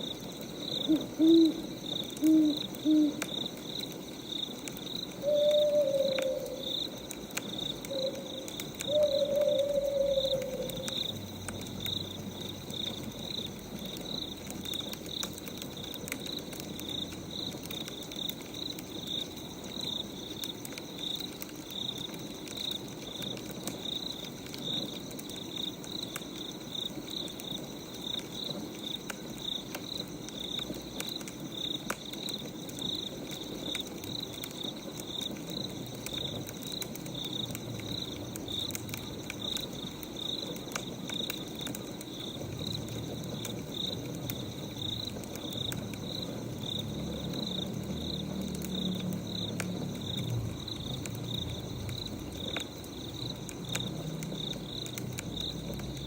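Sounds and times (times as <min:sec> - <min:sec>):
crickets chirping: 0:00.0 - 0:56.0
wood fire crackling: 0:00.0 - 0:56.0.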